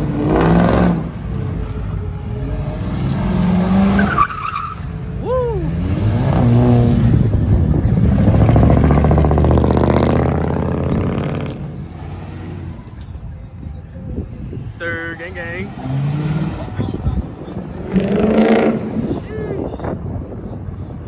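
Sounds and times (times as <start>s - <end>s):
car engines revving hard: 0.0s - 20.9s.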